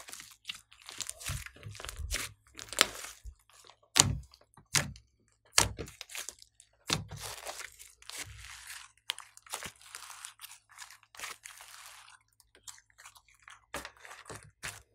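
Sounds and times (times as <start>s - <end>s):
slime crackling squelches: 0.0s - 14.9s.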